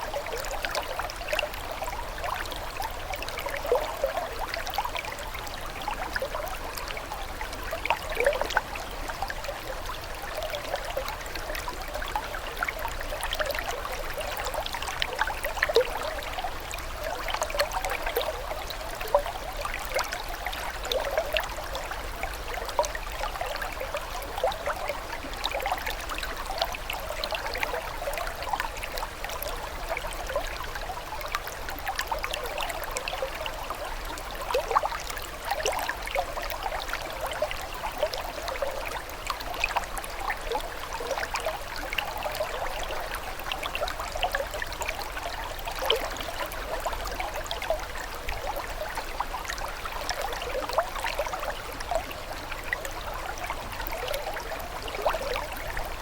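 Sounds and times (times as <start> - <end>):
water trickling in a stream: 0.0 - 56.0.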